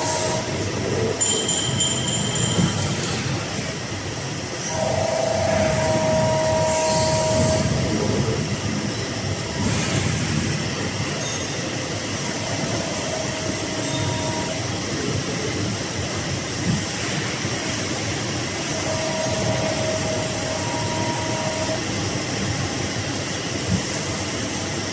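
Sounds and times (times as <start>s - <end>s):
machine whine: 0.0s - 24.9s.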